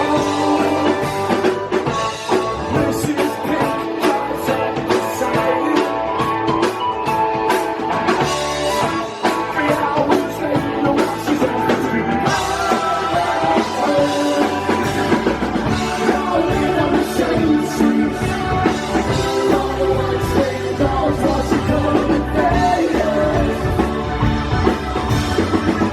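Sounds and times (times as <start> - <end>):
person singing: 0.0 - 6.8, 9.0 - 24.6
rock band playing loudly: 0.0 - 25.9
steady drum beat: 0.0 - 25.9.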